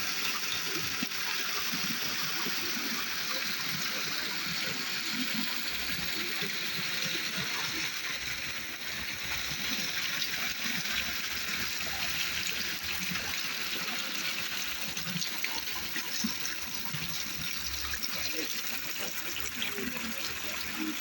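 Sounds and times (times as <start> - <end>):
water splashing over waterfall: 0.0 - 21.0.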